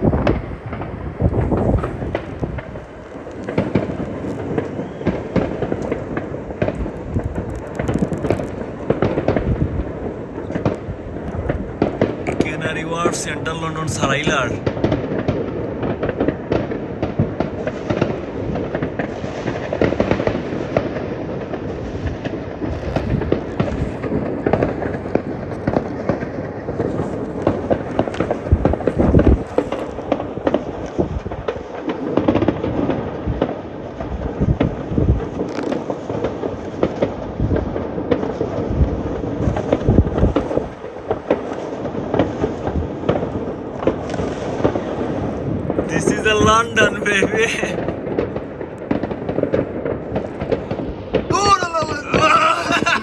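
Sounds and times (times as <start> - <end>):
fireworks low booms: 0.0 - 51.3
fireworks bangs and crackles: 0.0 - 53.0.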